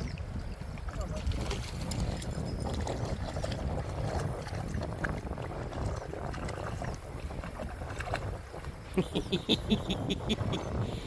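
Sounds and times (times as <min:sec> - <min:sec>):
water splashing from wading: 0:00.0 - 0:09.5.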